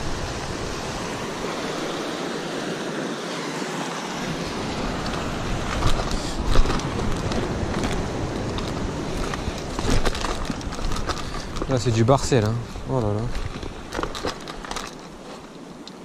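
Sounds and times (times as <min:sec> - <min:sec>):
wind on microphone: 0:00.0 - 0:02.6, 0:04.2 - 0:14.4
surf breaking on rocks: 0:00.0 - 0:16.0.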